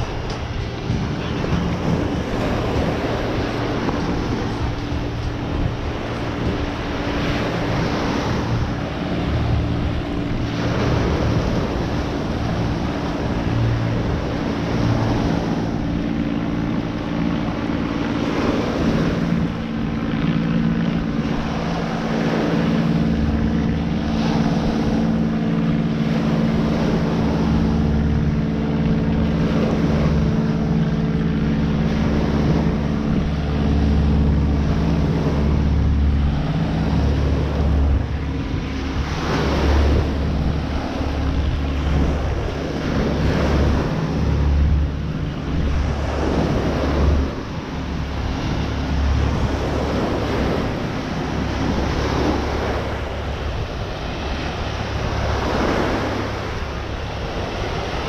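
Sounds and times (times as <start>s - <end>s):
steady engine drone: 0.0s - 58.0s
surf washing onto beach: 0.0s - 58.0s
wind buffeting microphone: 0.0s - 58.0s.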